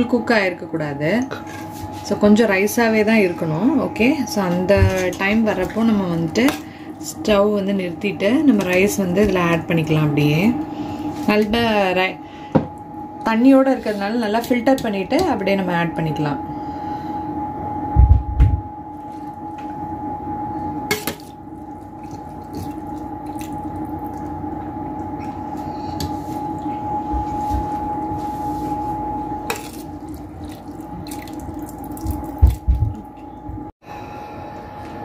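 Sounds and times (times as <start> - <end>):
electrical appliance hum: 0.0 - 35.0.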